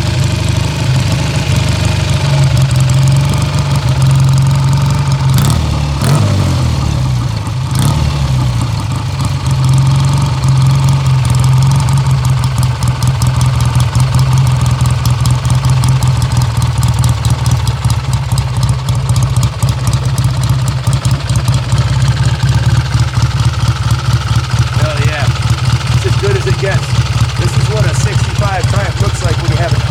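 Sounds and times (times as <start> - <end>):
motorcycle engine revving and idling: 0.0 - 29.9.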